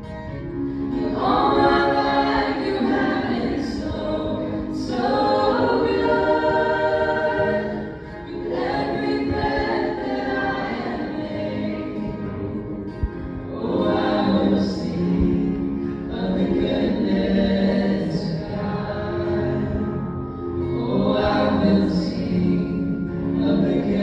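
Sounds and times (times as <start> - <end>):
group singing a worship song: 0.6 - 24.0.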